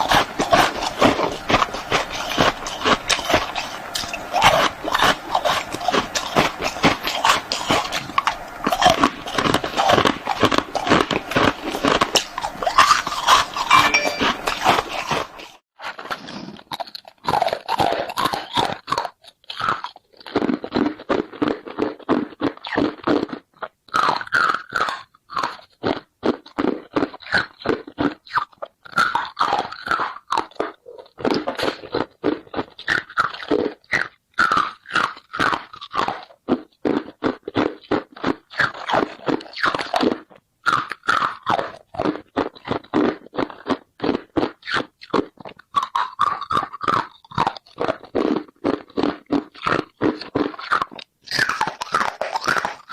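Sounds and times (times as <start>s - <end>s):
ice crunching being chewed: 0.0s - 52.9s.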